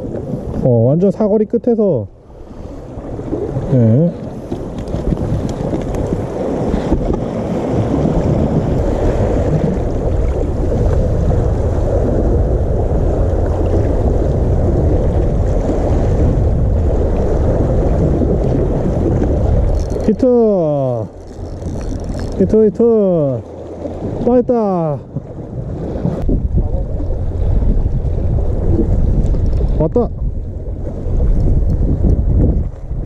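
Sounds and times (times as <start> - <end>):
wind rumbling on microphone: 0.0 - 33.0
sea waves washing over rocks: 2.4 - 33.0.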